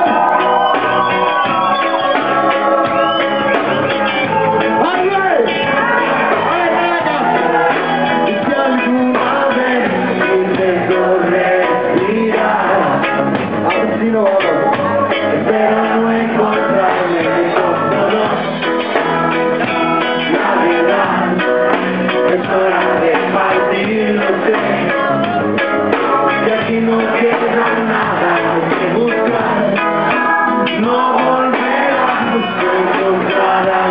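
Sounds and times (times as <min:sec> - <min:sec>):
reggae band playing live: 0:00.0 - 0:33.9.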